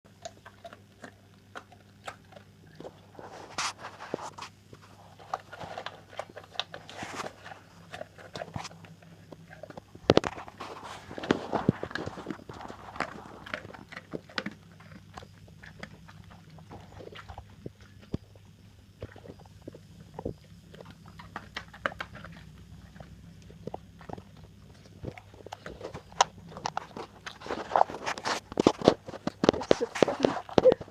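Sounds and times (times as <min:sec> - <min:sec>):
dog chomping and crunching food: 0:00.1 - 0:30.9.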